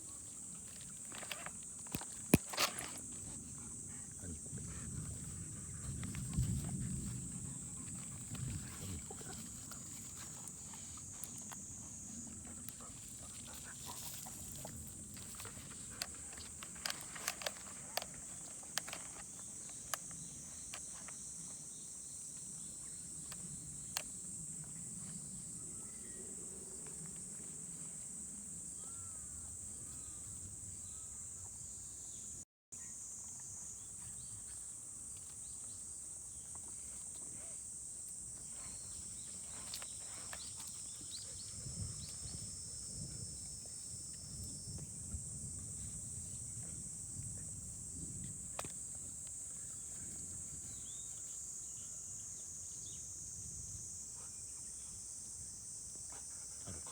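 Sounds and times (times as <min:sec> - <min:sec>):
high-pitched insect chorus: 0:00.0 - 0:56.9.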